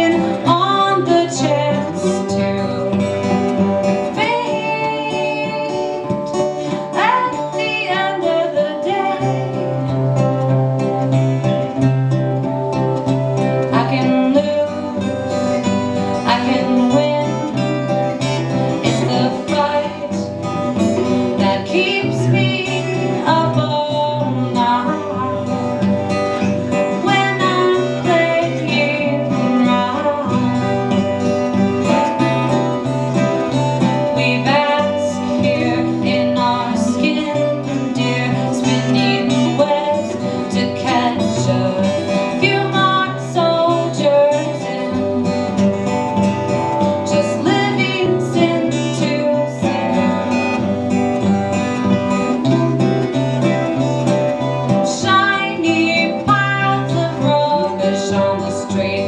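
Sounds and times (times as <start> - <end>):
woman singing: 0.0 - 10.8, 13.4 - 59.0
acoustic guitars playing: 0.0 - 59.0.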